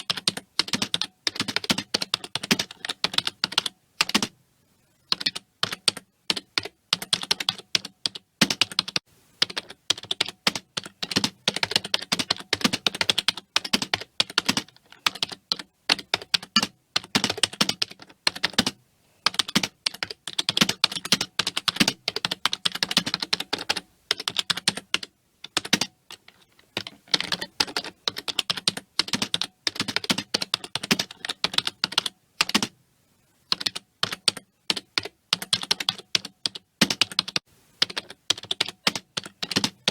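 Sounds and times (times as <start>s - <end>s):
fast typing on keyboard: 0.0s - 4.3s, 5.1s - 32.8s, 33.5s - 39.9s.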